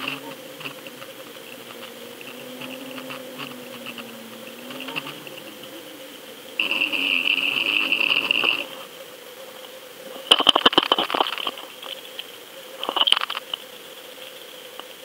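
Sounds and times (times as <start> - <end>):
steady high whine: 0.0 - 13.6.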